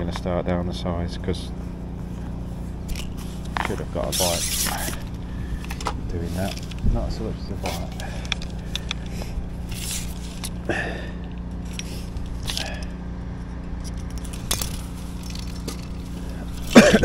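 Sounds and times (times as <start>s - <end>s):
steady low hum: 0.0s - 17.0s
fishing tackle scraping and clicking: 2.1s - 17.0s.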